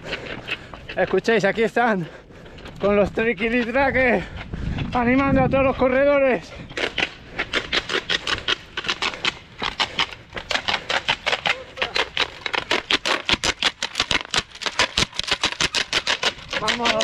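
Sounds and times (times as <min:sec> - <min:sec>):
noisemakers cracking clacks: 0:00.0 - 0:05.3, 0:06.8 - 0:17.0.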